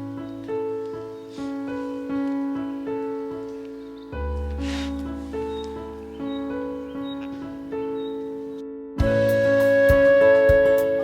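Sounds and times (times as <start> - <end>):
keyboard music with sustained notes: 0.0 - 11.0.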